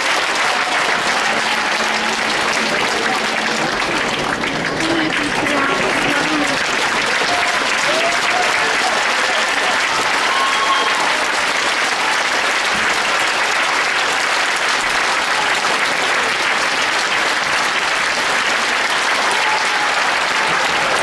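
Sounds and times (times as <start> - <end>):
large audience applauding: 0.0 - 21.0.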